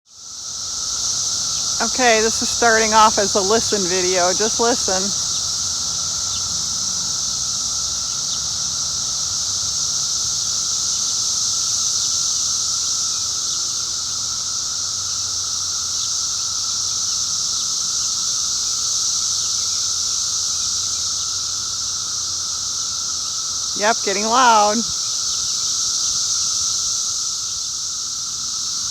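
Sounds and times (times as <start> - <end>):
cicadas droning: 0.1 - 28.9.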